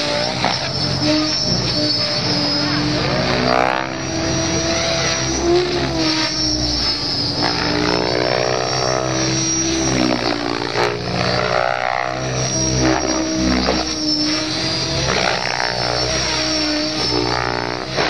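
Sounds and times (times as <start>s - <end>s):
rc helicopter rotor and motor drone: 0.0s - 18.0s.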